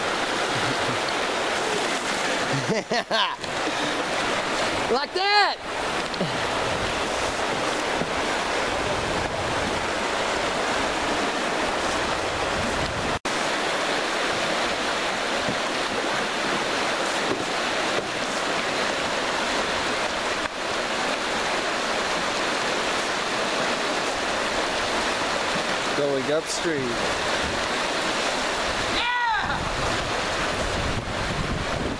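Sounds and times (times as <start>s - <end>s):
whitewater roaring in river rapid: 0.0s - 31.9s.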